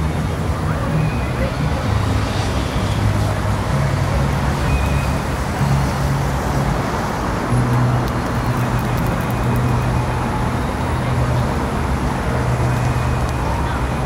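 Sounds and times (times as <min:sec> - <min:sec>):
traffic-like rumble: 0:00.0 - 0:14.0.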